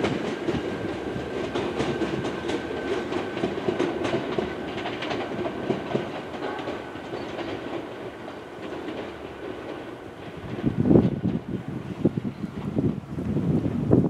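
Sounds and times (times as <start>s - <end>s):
train wheels clacking over rails: 0.0s - 13.8s.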